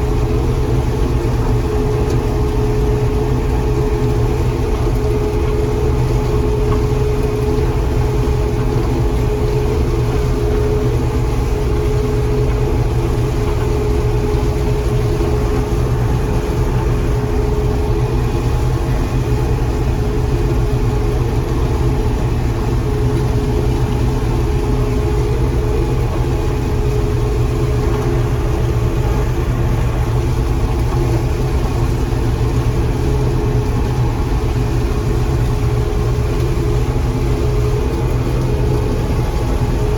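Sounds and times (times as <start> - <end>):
combine engine drone: 0.0 - 39.9
mechanical whine: 0.0 - 39.9.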